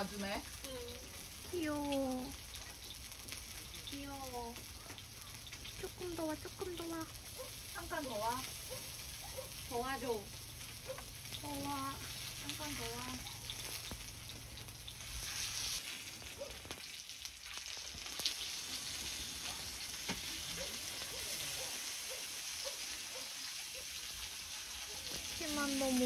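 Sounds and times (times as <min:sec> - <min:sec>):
pork sizzling on a grill plate: 0:00.0 - 0:26.0.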